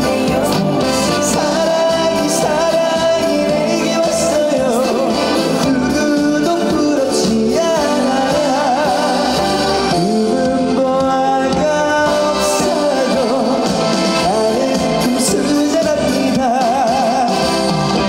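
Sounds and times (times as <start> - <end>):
instrumental accompaniment: 0.0 - 18.0
man singing with vibrato: 0.0 - 18.0.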